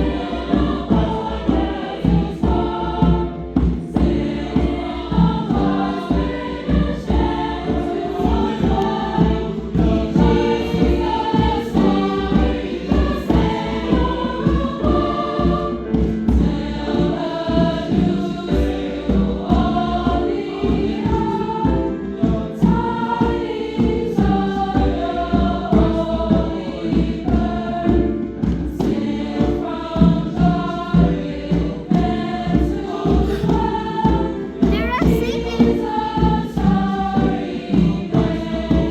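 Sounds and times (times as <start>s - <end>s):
choir singing: 0.0s - 38.9s
musical accompaniment with steady beat: 0.0s - 38.9s.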